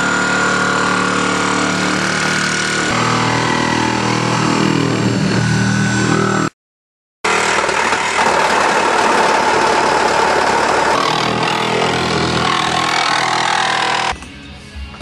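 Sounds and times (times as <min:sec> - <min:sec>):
loud motor whining: 0:00.0 - 0:06.5, 0:07.3 - 0:14.2.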